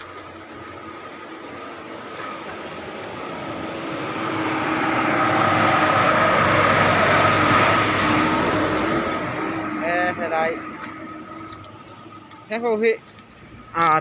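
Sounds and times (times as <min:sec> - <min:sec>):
truck driving past: 0:00.0 - 0:12.3
steady whine: 0:00.0 - 0:14.0.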